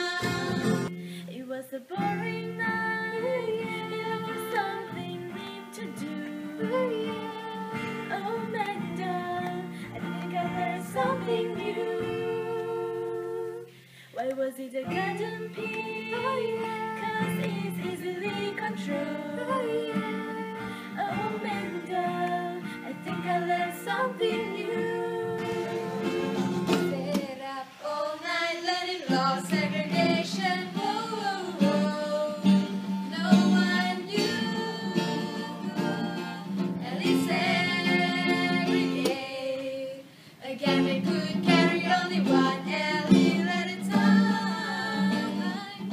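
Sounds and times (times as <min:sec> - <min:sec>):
acoustic guitar: 0:00.0 - 0:45.9
young women singing together: 0:00.0 - 0:45.9.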